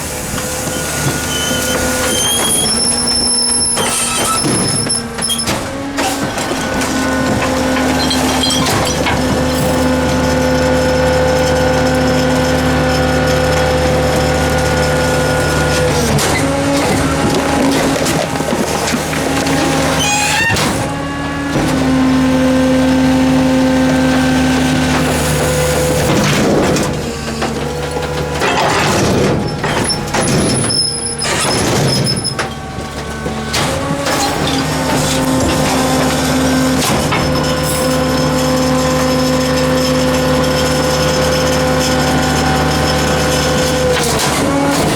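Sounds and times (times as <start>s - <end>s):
diesel engine running: 0.0s - 44.9s
hydraulic pump whining: 0.0s - 44.9s.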